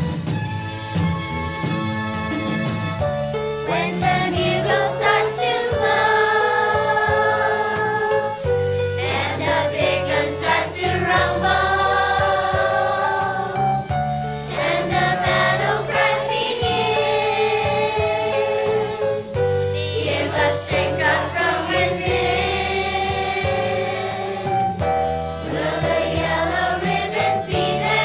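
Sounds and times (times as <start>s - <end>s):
instrumental accompaniment: 0.0s - 28.0s
choir singing held notes: 3.7s - 13.8s, 14.5s - 28.0s.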